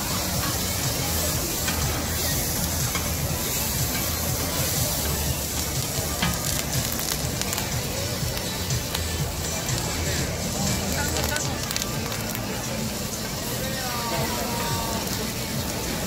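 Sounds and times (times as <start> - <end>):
gas torch flame rushing: 0.0 - 13.6
meat sizzling on a griddle: 0.0 - 16.0.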